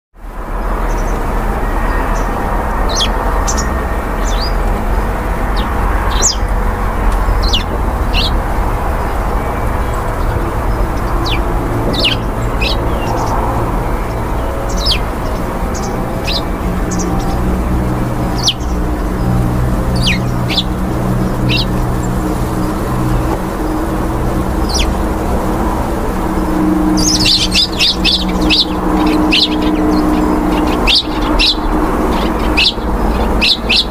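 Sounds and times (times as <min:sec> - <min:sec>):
small birds chirping: 0:00.6 - 0:33.9.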